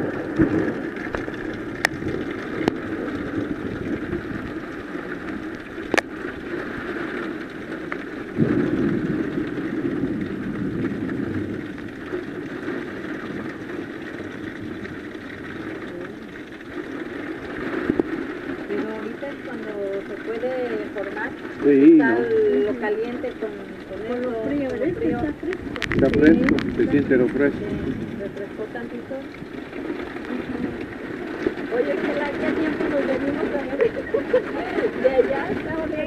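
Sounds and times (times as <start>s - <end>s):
heavy rain driven by wind: 0.0s - 36.0s.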